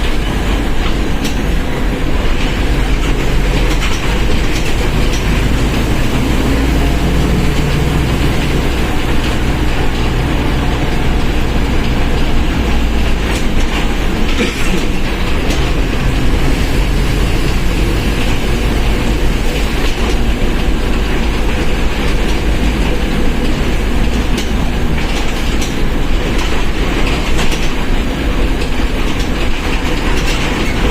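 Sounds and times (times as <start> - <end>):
rattling clicks: 0.0 - 17.0, 17.7 - 30.9
bus engine low hum: 0.0 - 30.9.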